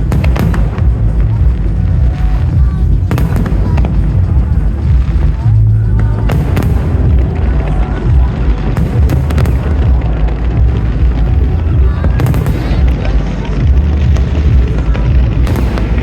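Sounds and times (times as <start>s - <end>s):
fireworks booming and cracking: 0.0s - 16.0s.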